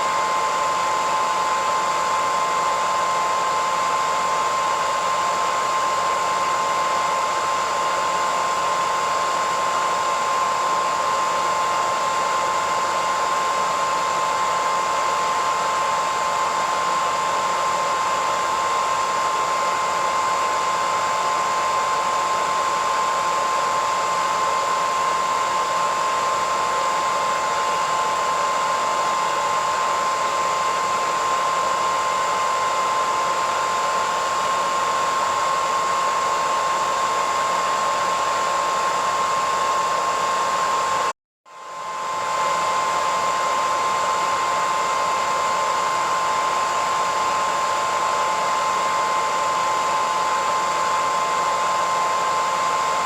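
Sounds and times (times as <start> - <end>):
hairdryer running: 0.0 - 53.0.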